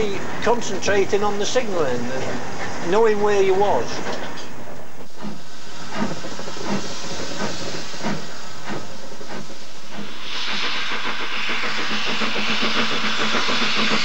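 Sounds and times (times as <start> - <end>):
loud hiss of steam: 0.0 - 4.4, 5.0 - 14.0
steam locomotive chugging: 0.0 - 14.0.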